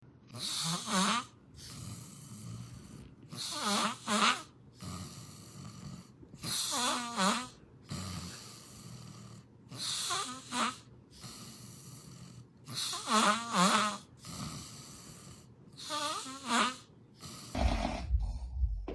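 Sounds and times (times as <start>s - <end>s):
person snoring: 0.3s - 18.6s
quiet breathing: 1.5s - 6.9s, 7.5s - 13.1s, 14.0s - 18.8s.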